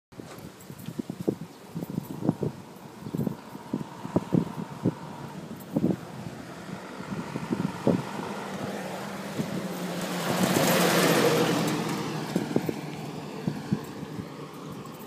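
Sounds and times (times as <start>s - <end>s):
truck engine passing: 2.8s - 15.0s.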